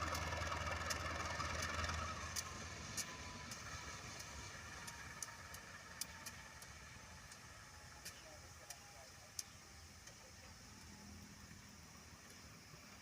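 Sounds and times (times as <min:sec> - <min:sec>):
background hiss: 0:00.0 - 0:13.0
engine low hum: 0:00.0 - 0:13.0
faint steady hum: 0:00.0 - 0:13.0.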